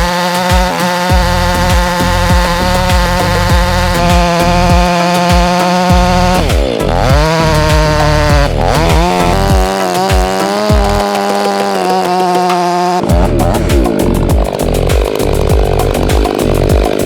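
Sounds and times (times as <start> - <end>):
chainsaw cutting log: 0.0 - 17.0.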